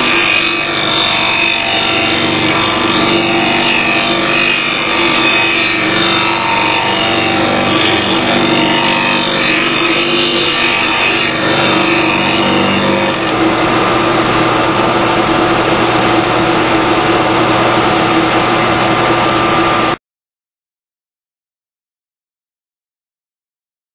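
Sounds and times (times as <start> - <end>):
blade grinding on grinding wheel: 0.0 - 20.0
machine humming: 0.0 - 20.0.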